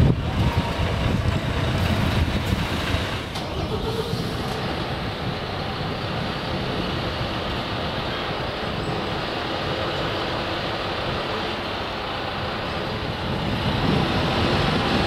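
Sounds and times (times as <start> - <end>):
background traffic noise: 0.0 - 15.0
bus engine rumble: 0.0 - 15.0.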